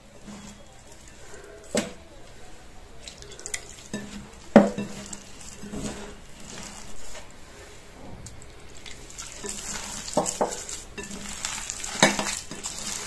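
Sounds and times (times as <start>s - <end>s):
hand kneading wet dough: 0.0s - 13.0s.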